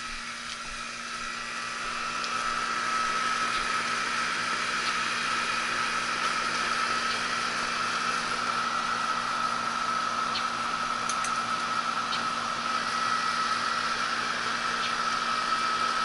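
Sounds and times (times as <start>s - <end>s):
air conditioning fan rush: 0.0s - 16.0s.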